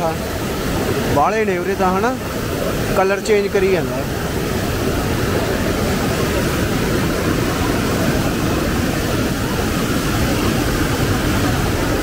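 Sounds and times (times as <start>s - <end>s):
loud outdoor rushing noise: 0.0s - 12.0s.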